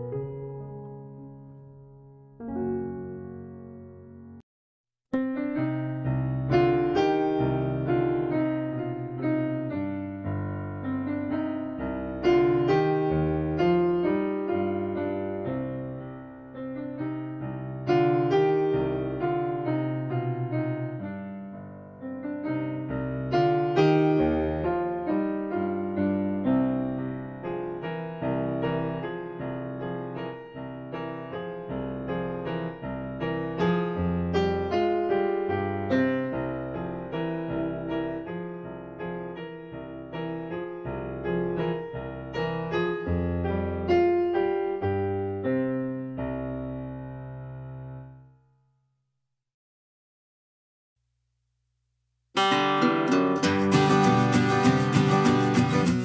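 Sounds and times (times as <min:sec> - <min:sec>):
piano music: 0:00.0 - 0:04.4, 0:05.2 - 0:48.3, 0:52.4 - 0:56.0.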